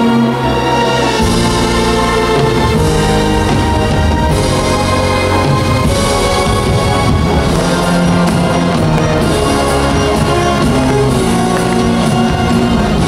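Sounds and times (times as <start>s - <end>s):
loud music with sustained bass: 0.0s - 13.0s.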